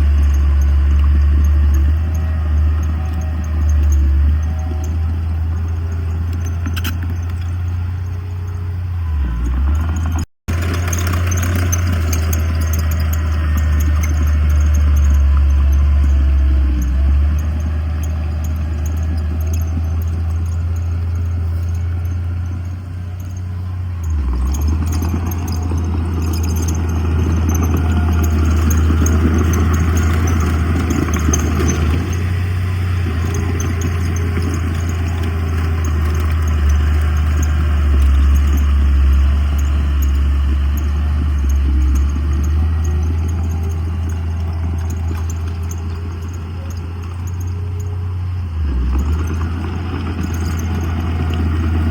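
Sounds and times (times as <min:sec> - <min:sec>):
heavy machinery diesel engine: 0:00.0 - 0:51.9
machinery rattling and clatter: 0:00.0 - 0:51.9.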